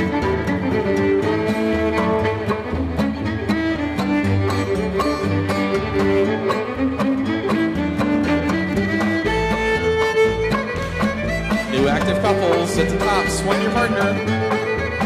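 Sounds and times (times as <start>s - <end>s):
fiddle melody: 0.0s - 15.0s
guitar: 0.0s - 15.0s
upright bass: 0.0s - 15.0s.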